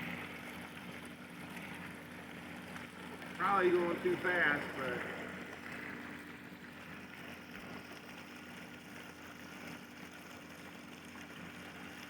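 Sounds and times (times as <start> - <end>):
pool pump humming: 0.0 - 12.0.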